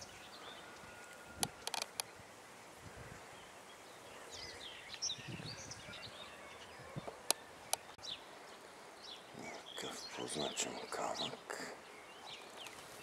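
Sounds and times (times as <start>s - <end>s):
birds chirping: 0.0s - 13.0s
faint outdoor background: 0.0s - 13.0s.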